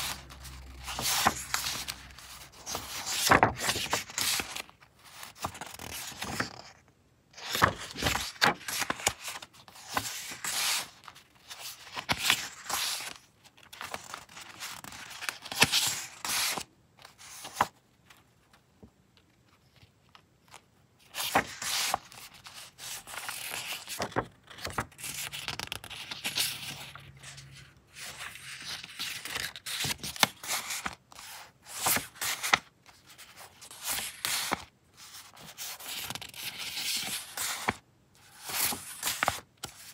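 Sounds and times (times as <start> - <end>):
paper sheets shuffling and rustling: 0.0 - 6.8, 7.4 - 18.7, 19.4 - 39.9.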